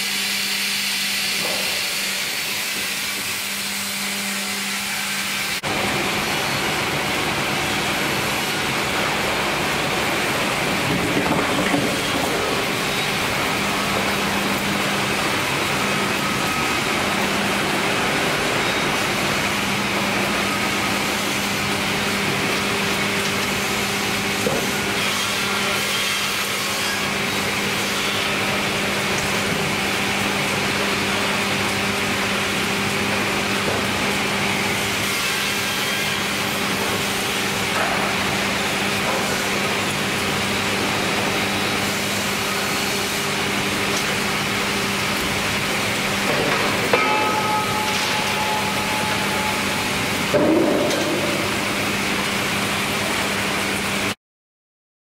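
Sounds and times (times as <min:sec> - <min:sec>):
sawmill machinery running: 0:00.0 - 0:54.2.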